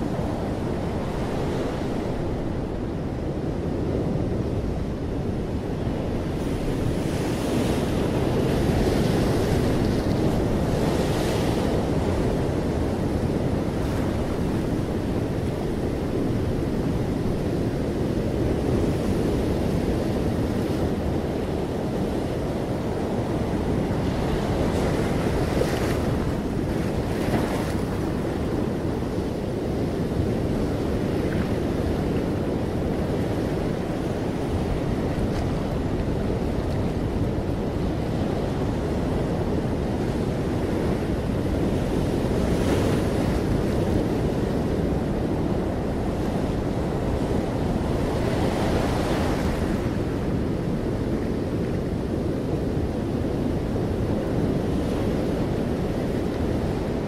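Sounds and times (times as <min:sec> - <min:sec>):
ocean surf roar: 0:00.0 - 0:57.0.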